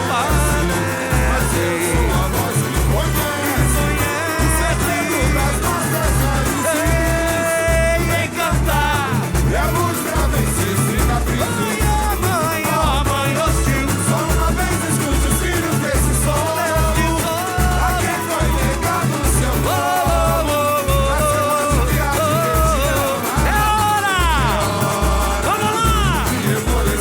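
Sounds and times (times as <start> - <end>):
deep bass drum beats: 0.0 - 27.0
singers over samba drums: 0.0 - 27.0.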